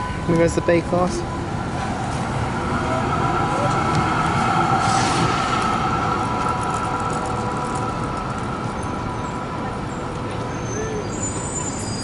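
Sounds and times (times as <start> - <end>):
tram running by: 0.0 - 12.0.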